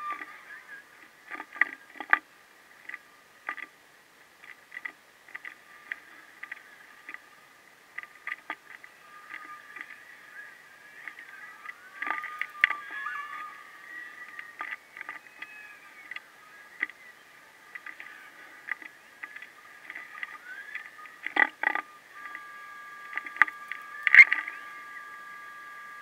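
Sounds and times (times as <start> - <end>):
faint high-pitched hum: 0.0 - 26.0.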